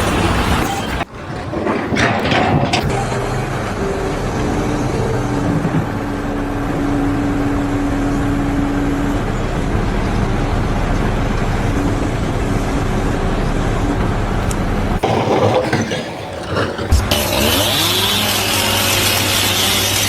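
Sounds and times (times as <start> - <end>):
engine rumble: 0.0 - 20.0.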